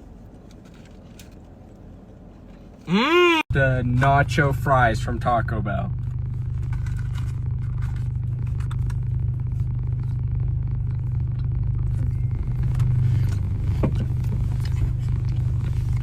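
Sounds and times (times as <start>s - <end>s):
car engine idling: 2.8s - 16.0s.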